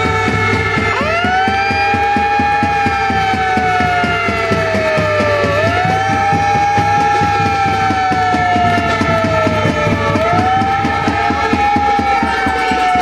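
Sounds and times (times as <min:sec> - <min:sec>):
fast rhythmic pulsing: 0:00.0 - 0:13.0
siren wailing: 0:00.0 - 0:13.0.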